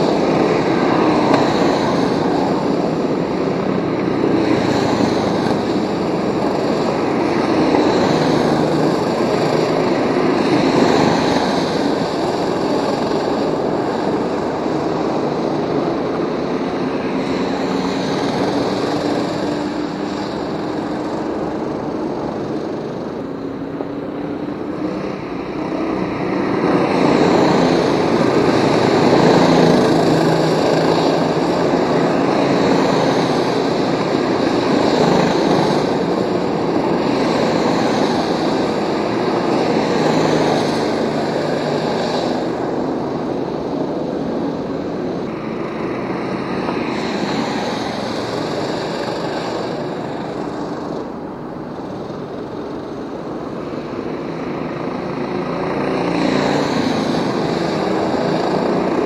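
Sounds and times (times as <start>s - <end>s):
go-kart engines buzzing: 0.0s - 59.0s.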